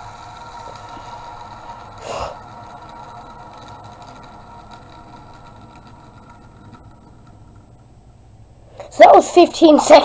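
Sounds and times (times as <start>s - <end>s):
fidget spinner whirring and rattling: 0.0s - 10.0s.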